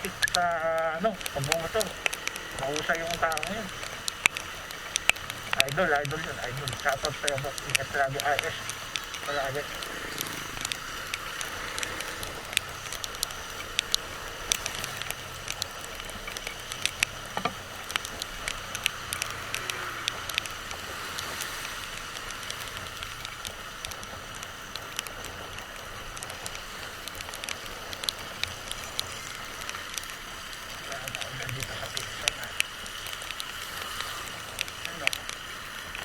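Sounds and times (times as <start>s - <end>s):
sharp ticks and pattering: 0.0s - 36.0s
steady ride hiss: 0.0s - 36.0s.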